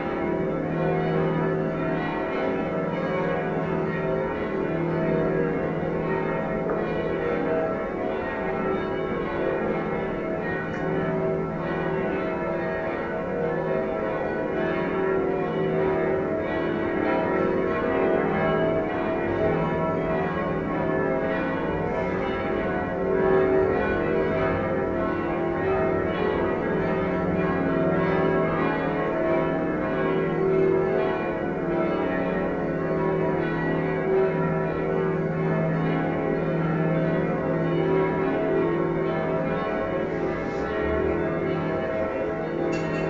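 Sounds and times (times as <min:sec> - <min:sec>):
church bells ringing a peal: 0:00.0 - 0:43.0.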